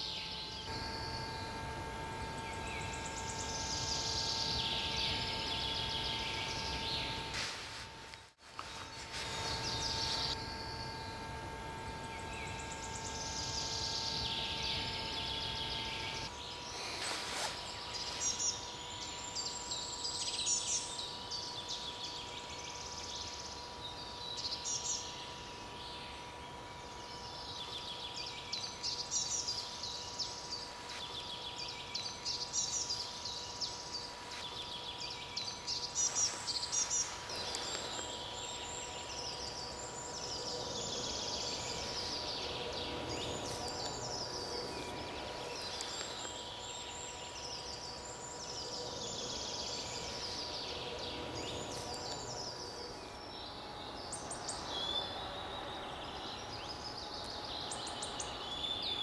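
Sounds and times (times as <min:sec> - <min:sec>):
faint steady hum: 0:00.0 - 0:59.0
songbirds singing: 0:00.0 - 0:59.0.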